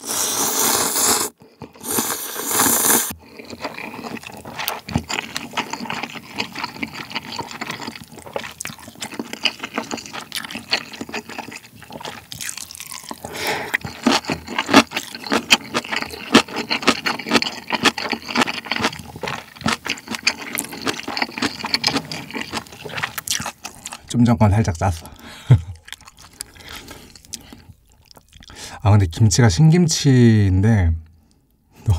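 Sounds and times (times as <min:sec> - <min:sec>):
slurping noodles and broth: 0:00.0 - 0:24.1, 0:26.0 - 0:28.8
person chewing noodles: 0:00.0 - 0:28.8.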